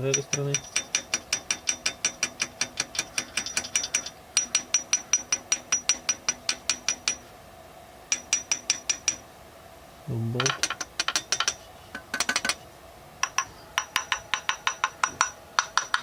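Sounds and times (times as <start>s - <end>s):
metal tapping on engine head: 0.1s - 7.3s, 8.1s - 9.2s, 10.4s - 12.6s, 13.2s - 16.0s.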